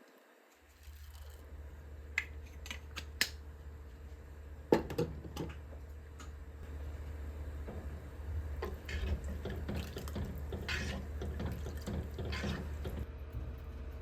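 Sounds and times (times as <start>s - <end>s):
steady low hum: 0.3s - 14.0s.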